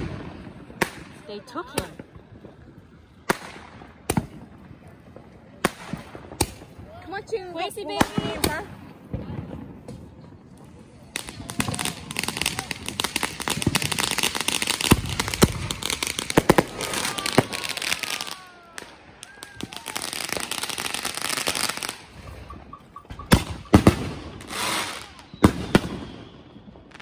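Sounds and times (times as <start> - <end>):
firework bangs: 0.0 - 27.0
firework fountain crackling and popping: 0.0 - 27.0.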